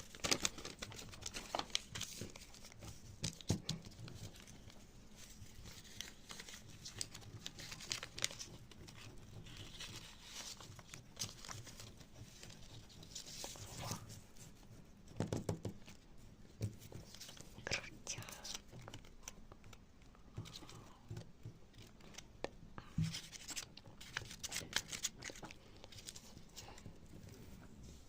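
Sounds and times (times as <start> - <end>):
rustling and crinkling: 0.0 - 28.0.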